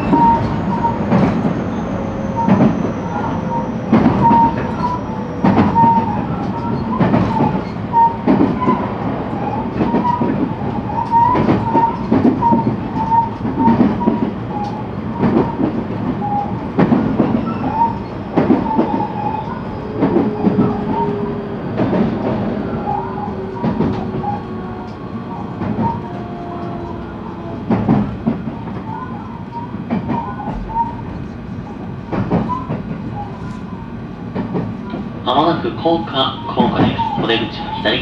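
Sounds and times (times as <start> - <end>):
rail-joint clicks: 0.0 - 38.0
train running rumble: 0.0 - 38.0.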